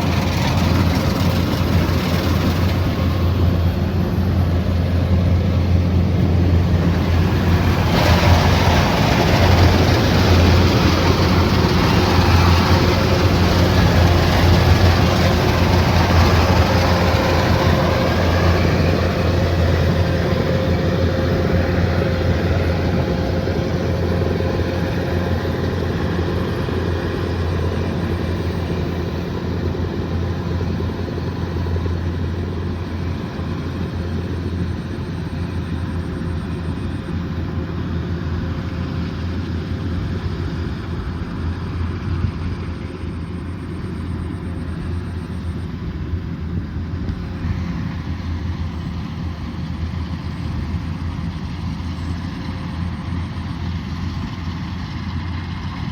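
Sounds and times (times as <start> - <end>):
combine harvester engine droning: 0.0 - 55.9.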